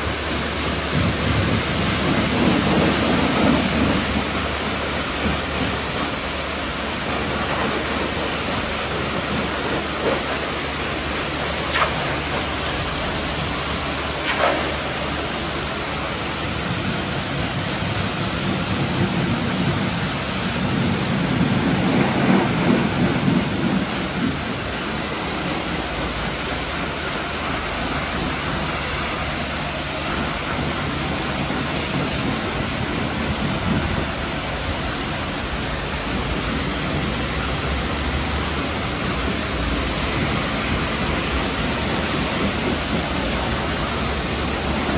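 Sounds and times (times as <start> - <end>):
water spraying onto car: 0.0 - 44.9.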